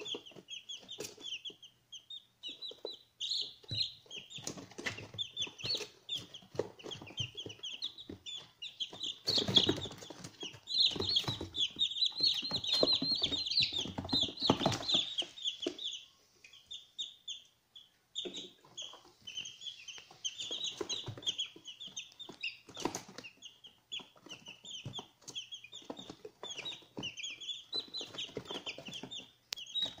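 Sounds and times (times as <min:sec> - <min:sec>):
chicks peeping: 0:00.0 - 0:30.0.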